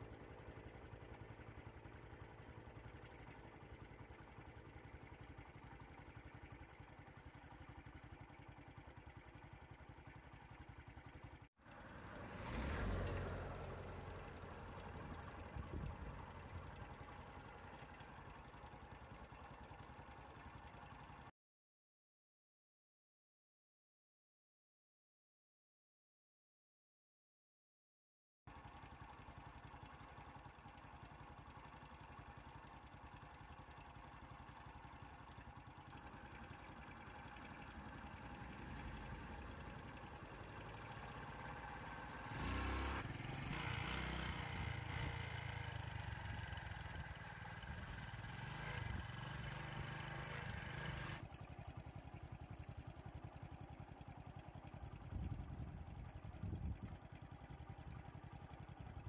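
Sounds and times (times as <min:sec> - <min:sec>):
vehicle engine idling: 0:00.0 - 0:21.3, 0:28.5 - 0:59.0.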